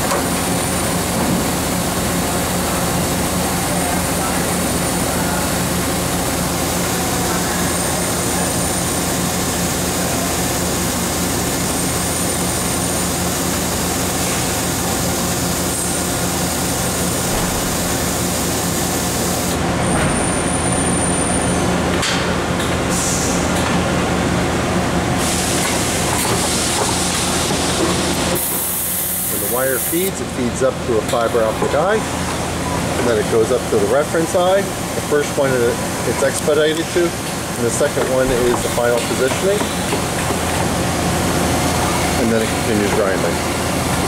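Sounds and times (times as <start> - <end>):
grinder mechanical hum and hiss: 0.0 - 44.0.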